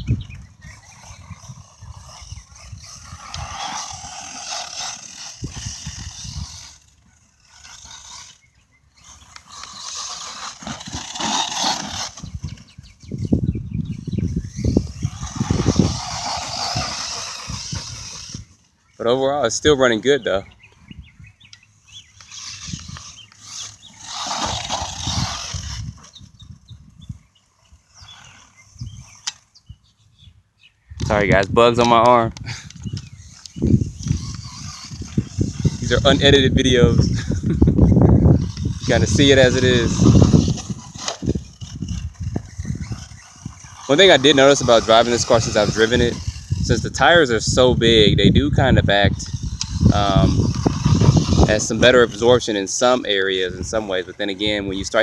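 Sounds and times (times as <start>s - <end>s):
birds chirping: 0.0s - 55.0s
toy truck driving on dirt: 0.0s - 55.0s.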